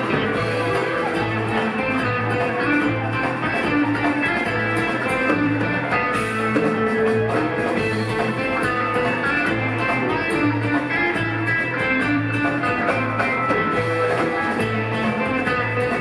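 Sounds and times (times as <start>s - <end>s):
drums: 0.0s - 16.0s
guitar: 0.0s - 16.0s
pulsing bass line: 0.0s - 16.0s.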